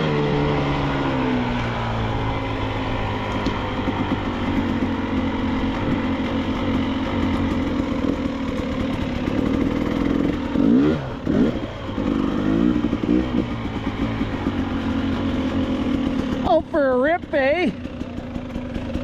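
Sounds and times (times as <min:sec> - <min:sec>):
dirt bike engine: 0:00.0 - 0:19.0.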